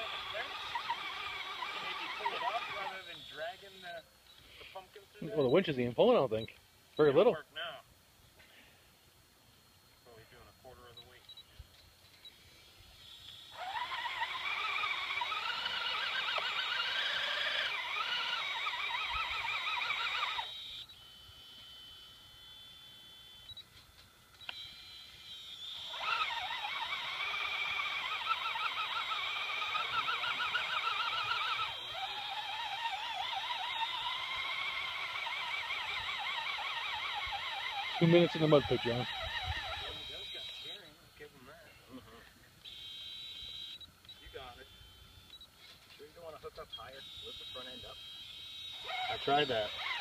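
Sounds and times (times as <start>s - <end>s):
electric motor whining: 0.0s - 7.3s, 12.2s - 41.6s, 42.2s - 50.0s.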